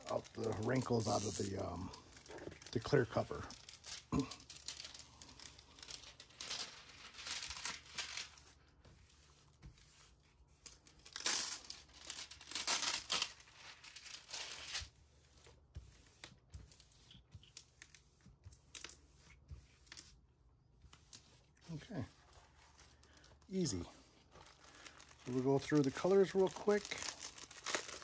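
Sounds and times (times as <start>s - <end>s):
plastic film crinkling: 0.0s - 20.2s, 20.9s - 28.0s.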